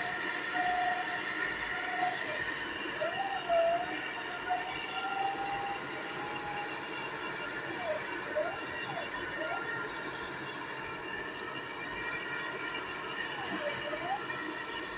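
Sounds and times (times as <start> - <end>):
high squealing tone: 0.0 - 10.0, 12.4 - 14.6
piling rig machinery running: 0.0 - 14.9.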